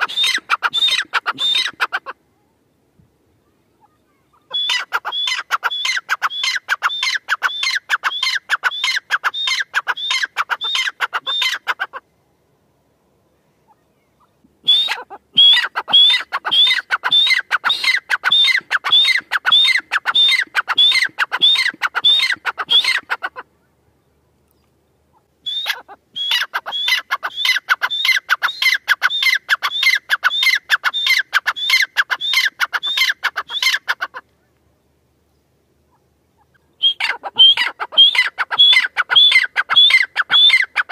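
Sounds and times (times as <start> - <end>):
francolin calling: 0.0 - 2.5, 3.4 - 12.0, 13.4 - 24.0, 25.1 - 34.5, 35.8 - 40.9.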